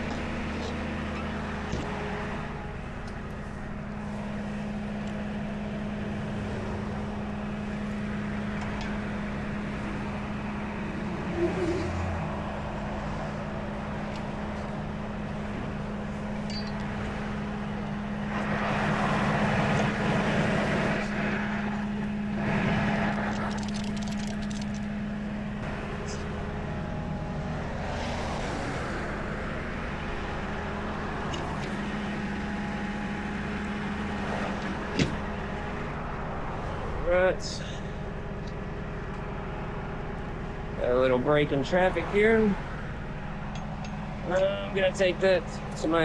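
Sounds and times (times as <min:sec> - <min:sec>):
idling engine hum: 0:00.0 - 0:46.0
traffic passing close by: 0:00.0 - 0:46.0
vehicles rushing past: 0:00.0 - 0:46.0.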